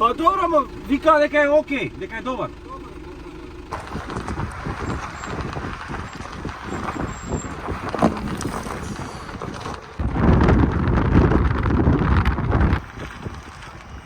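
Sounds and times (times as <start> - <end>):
tyres on uneven road: 0.0 - 14.0
vehicle engine rumble: 0.0 - 14.0.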